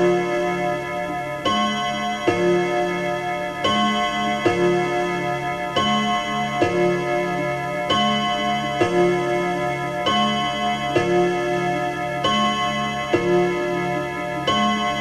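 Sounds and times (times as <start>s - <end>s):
clock chiming on chime rods: 0.0s - 15.0s.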